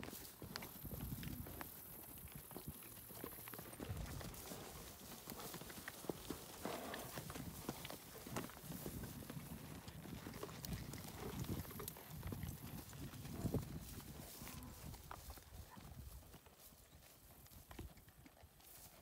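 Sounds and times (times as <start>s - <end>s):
horse hooves in dry grass: 0.0s - 19.0s.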